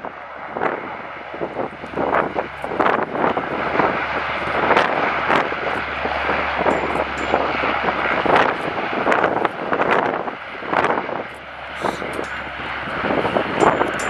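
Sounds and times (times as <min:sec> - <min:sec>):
turboprop engines at takeoff power: 0:00.0 - 0:14.0
wind buffeting microphone: 0:00.0 - 0:14.0.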